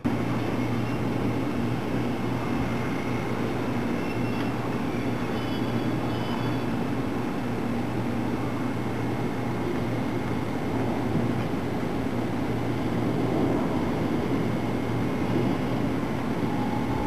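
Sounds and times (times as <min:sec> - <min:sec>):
faint high whining tones: 0:00.0 - 0:17.0
locomotive steady low hum: 0:00.0 - 0:17.0.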